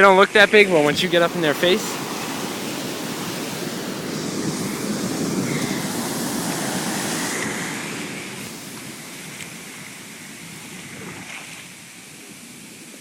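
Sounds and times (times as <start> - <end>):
wave breaking and rushing in: 0.4 - 11.8.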